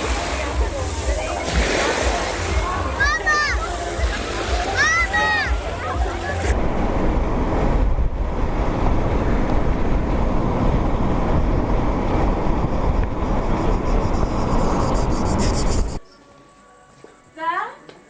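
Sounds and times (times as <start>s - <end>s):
steady low rumble: 0.0s - 16.0s
wind buffeting microphone: 0.0s - 16.0s.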